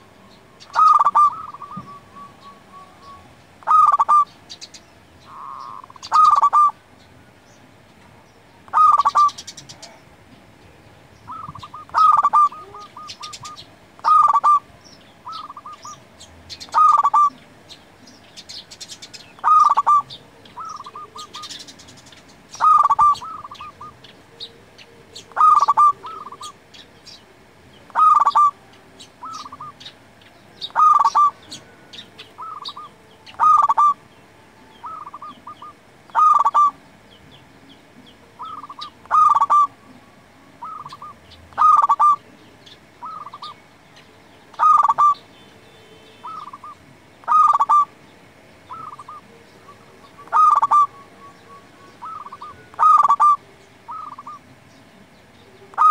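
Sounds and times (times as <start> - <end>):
dove cooing: 0.0 - 4.4, 5.2 - 6.9, 8.6 - 34.1, 34.7 - 36.8, 37.4 - 43.7, 44.5 - 45.3, 46.2 - 48.0, 48.6 - 54.7, 55.5 - 55.9.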